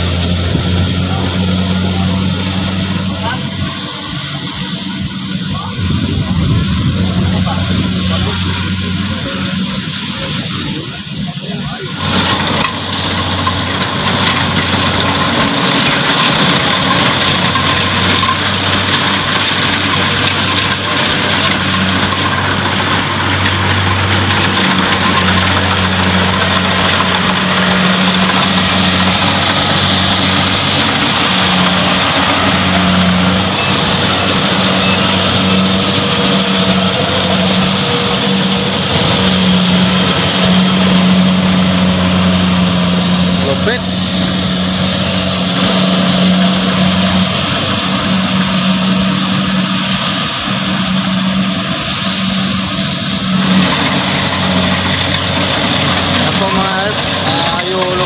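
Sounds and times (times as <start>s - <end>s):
combine harvester diesel engine running: 0.0s - 58.0s.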